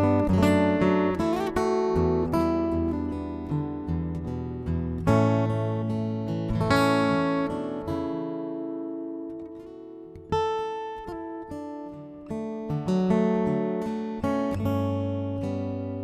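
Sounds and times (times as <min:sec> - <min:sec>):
fingerstyle acoustic guitar: 0:00.0 - 0:16.0.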